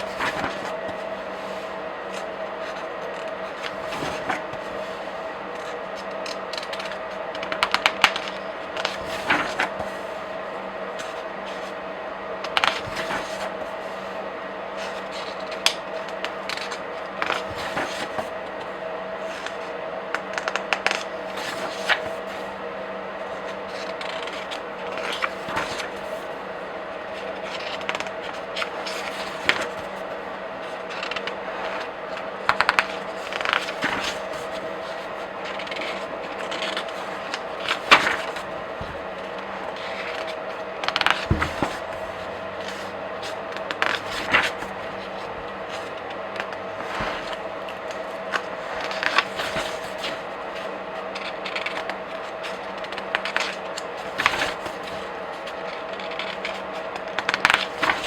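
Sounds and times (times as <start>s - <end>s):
paper pages flipping: 0.0s - 58.0s
steady background hum: 0.0s - 58.0s.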